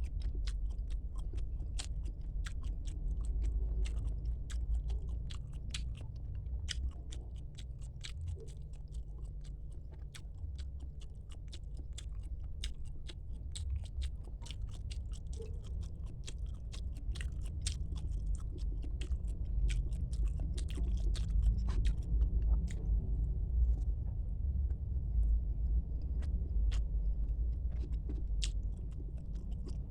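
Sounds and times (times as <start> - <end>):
person chewing food: 0.0 - 23.0, 26.0 - 29.9
low rumble: 0.0 - 29.9.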